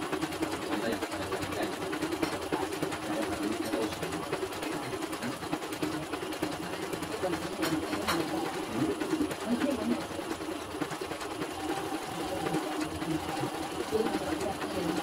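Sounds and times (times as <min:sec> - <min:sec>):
embroidery machine stitching: 0:00.0 - 0:15.0.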